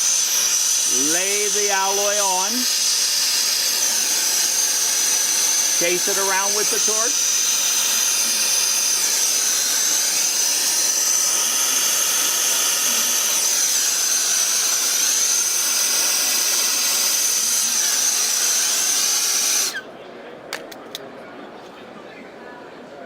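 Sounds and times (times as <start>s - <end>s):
gas torch flame hissing: 0.0s - 19.8s.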